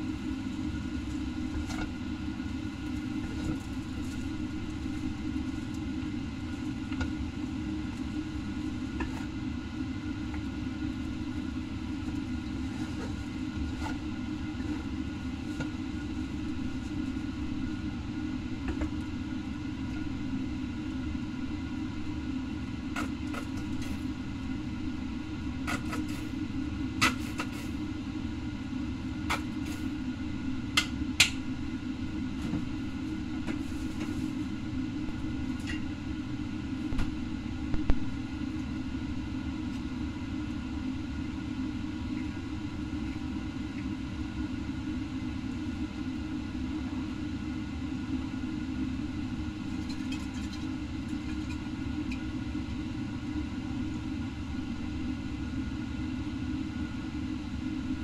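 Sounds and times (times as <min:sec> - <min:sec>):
low kitchen rumble: 0:00.0 - 0:58.0.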